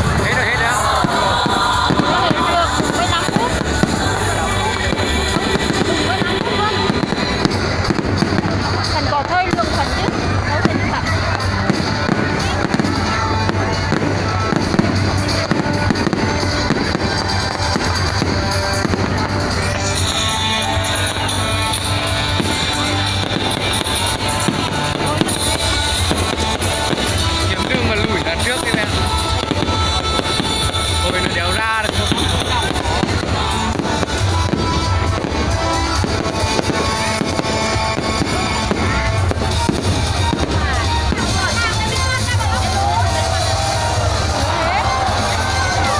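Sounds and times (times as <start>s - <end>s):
fireworks bangs and crackles: 0.0s - 45.9s
loud music: 0.0s - 45.9s.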